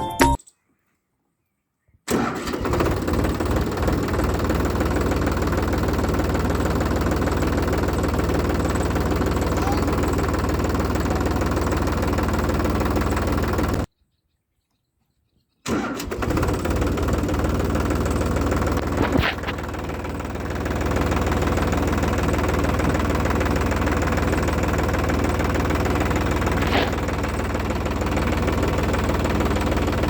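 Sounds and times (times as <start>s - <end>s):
tractor diesel engine running: 2.1s - 13.9s, 15.7s - 30.0s.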